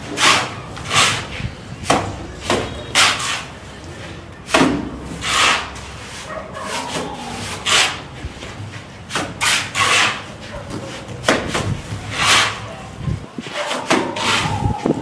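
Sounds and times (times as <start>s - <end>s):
trowel scraping cement on wall: 0.0s - 1.6s, 2.4s - 3.6s, 4.5s - 12.8s, 13.5s - 15.0s.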